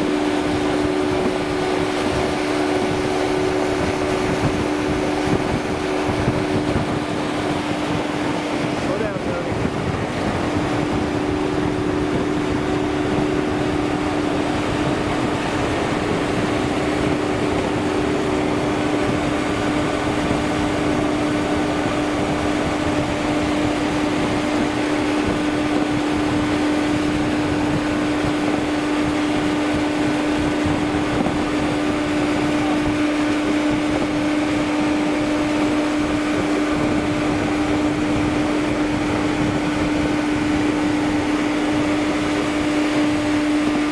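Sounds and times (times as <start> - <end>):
railcar mover mechanical drone: 0.0 - 43.9.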